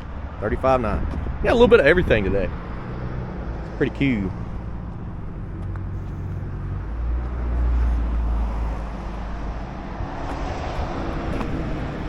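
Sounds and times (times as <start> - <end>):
deep engine rumble: 0.0 - 12.0
low engine hum: 0.0 - 12.0.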